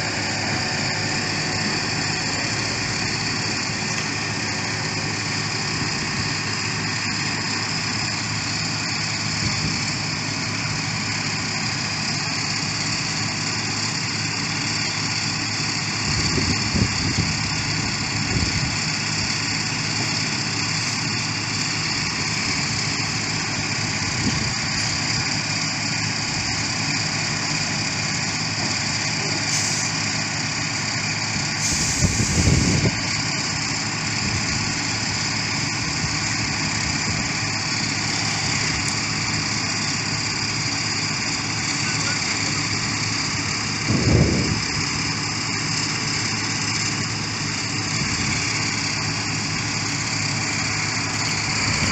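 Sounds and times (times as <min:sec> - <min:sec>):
heavy machinery engine running: 0:00.0 - 0:51.9.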